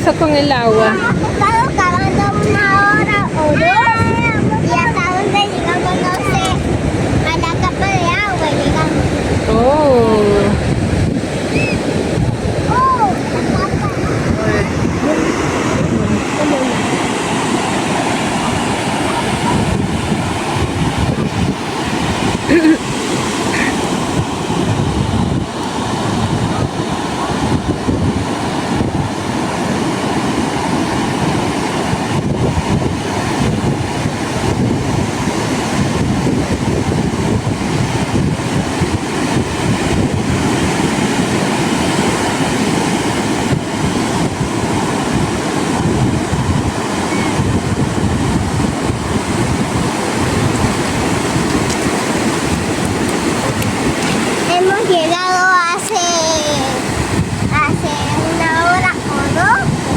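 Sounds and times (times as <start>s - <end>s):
ocean surf rushing: 0.0s - 59.9s
wind buffeting microphone: 0.0s - 59.9s.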